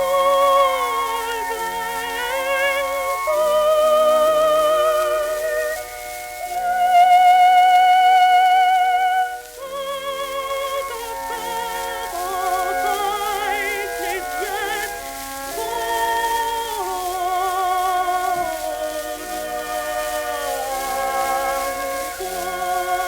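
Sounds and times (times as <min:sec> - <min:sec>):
old phonograph melody: 0:00.0 - 0:23.0.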